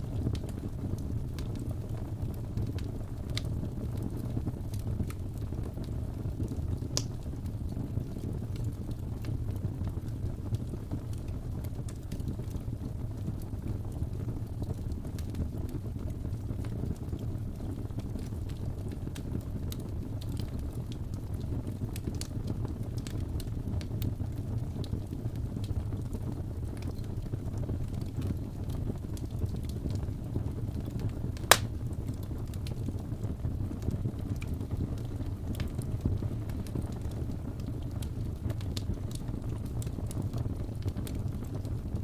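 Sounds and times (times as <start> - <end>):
fire crackling and popping: 0.0 - 42.0
wood fire rumbling: 0.0 - 42.0.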